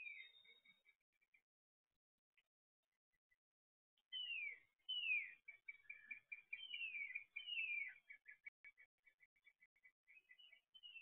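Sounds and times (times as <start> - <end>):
songbird singing: 0.0 - 1.5, 3.1 - 11.0.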